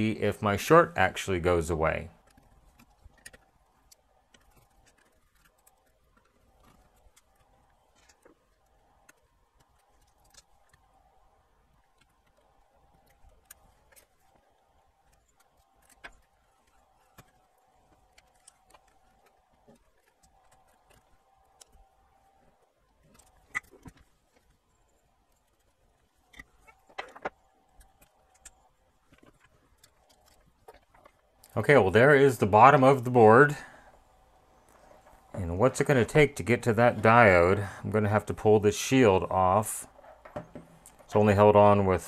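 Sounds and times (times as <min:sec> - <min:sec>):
faint steady tone: 0:00.0 - 0:42.0.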